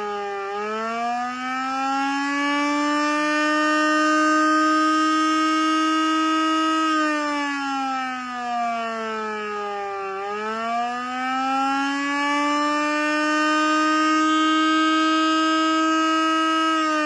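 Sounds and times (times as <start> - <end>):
warning siren: 0.0 - 17.0.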